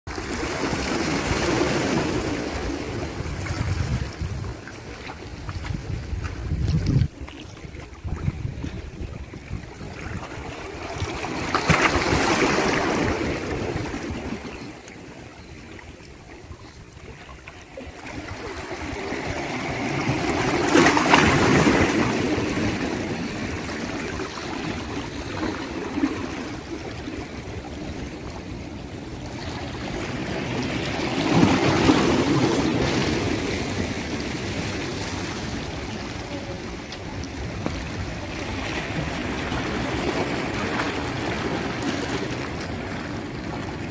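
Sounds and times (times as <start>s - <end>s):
sea waves washing ashore: 0.1s - 43.9s.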